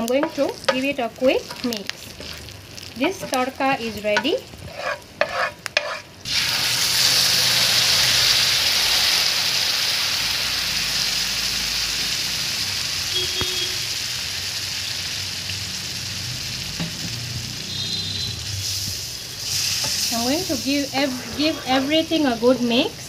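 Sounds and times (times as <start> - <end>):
paste sizzling in hot oil: 0.0 - 23.0.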